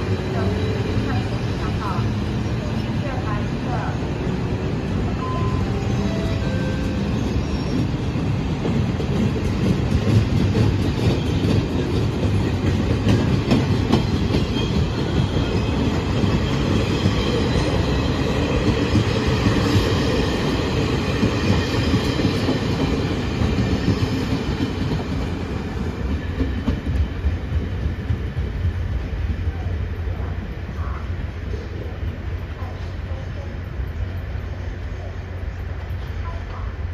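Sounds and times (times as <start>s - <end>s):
steel wheels on rail: 0.0s - 36.9s.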